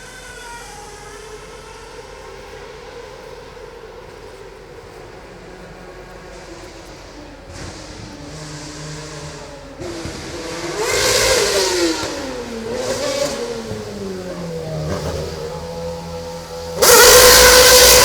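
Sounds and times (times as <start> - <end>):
racing car engine passing: 0.0 - 18.0.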